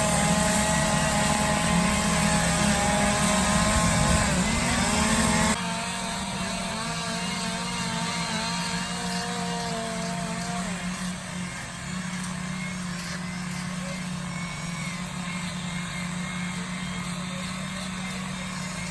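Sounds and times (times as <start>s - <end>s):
chainsaw engine running: 0.0s - 18.9s.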